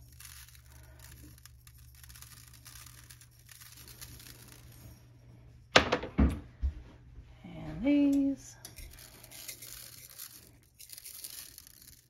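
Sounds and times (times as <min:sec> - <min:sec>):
patter of sprinkled grains: 0:00.0 - 0:05.7, 0:07.6 - 0:12.0.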